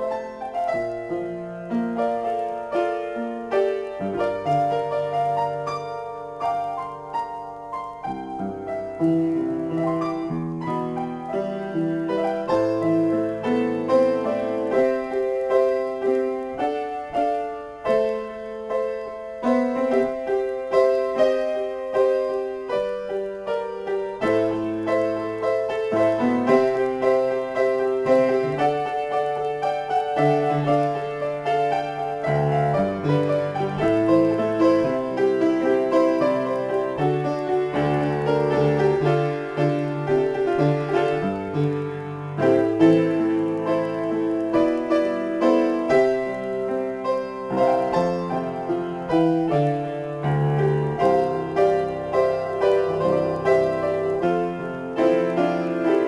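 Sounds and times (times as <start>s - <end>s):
piano playing: 0.0s - 56.0s.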